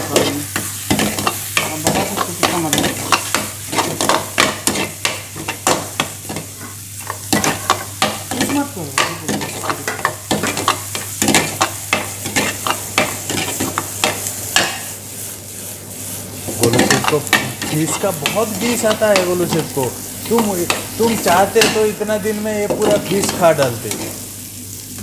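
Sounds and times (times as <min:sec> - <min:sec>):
ladle scraping wok: 0:00.0 - 0:22.0
vegetables sizzling in oil: 0:00.0 - 0:25.0.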